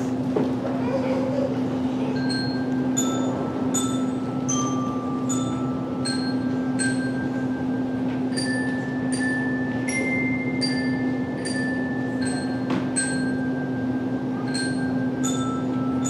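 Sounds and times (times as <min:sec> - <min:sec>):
tuned metal percussion melody: 0:01.2 - 0:16.0.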